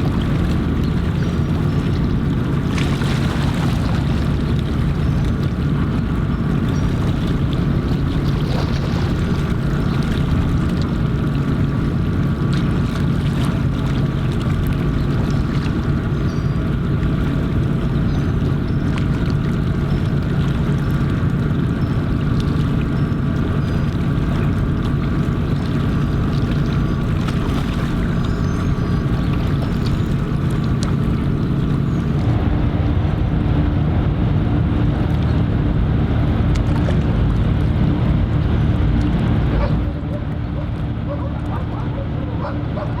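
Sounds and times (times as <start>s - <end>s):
hum tones: 0.0s - 43.0s
ship engine drone: 0.0s - 43.0s
wind buffeting microphone: 0.0s - 43.0s.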